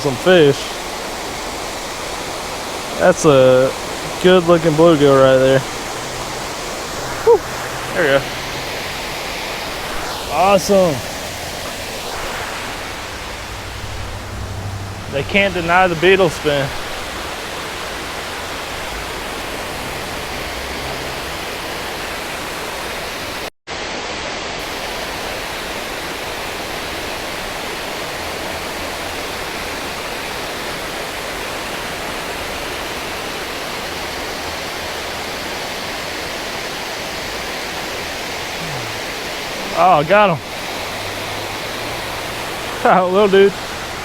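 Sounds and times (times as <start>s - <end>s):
water rushing over spillway: 0.0s - 44.0s.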